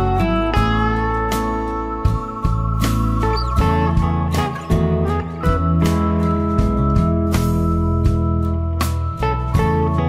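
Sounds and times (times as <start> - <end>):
instrumental music with plucked notes: 0.0 - 10.0.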